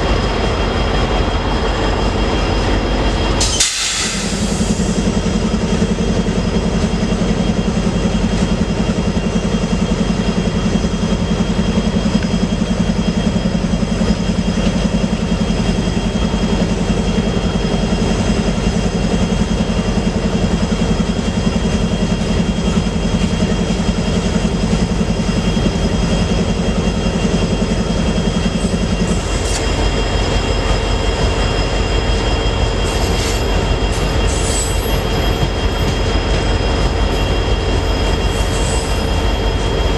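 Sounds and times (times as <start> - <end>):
freight train cars clattering: 0.0 - 39.9
high wheel squeal: 1.8 - 39.9.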